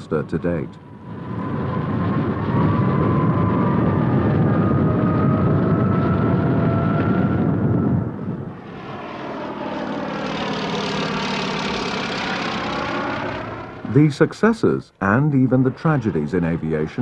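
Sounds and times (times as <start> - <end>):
biplane engine flying past: 0.0 - 17.0
rough propeller engine drone: 0.0 - 17.0.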